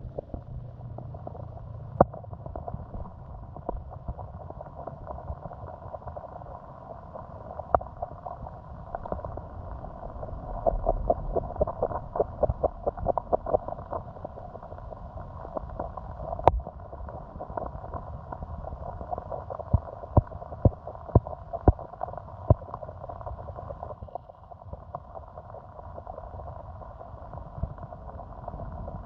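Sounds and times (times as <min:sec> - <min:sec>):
stream gurgling over stones: 0:00.0 - 0:29.0.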